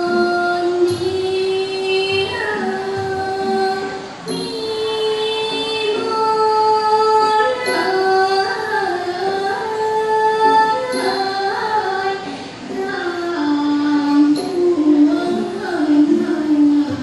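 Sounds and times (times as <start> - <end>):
girl singing: 0.0 - 17.0.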